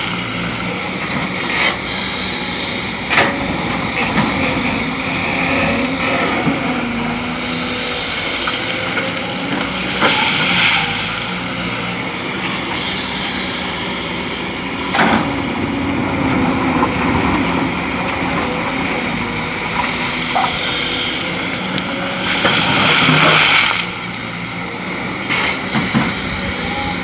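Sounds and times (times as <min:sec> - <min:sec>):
excavator diesel engine: 0:00.0 - 0:27.0.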